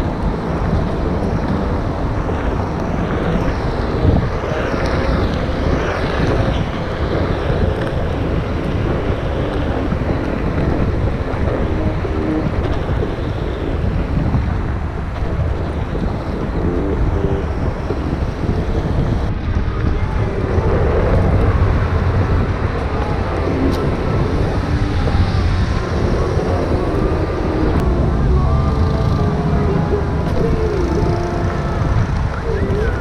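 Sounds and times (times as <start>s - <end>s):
wind buffeting the microphone: 0.0s - 33.0s.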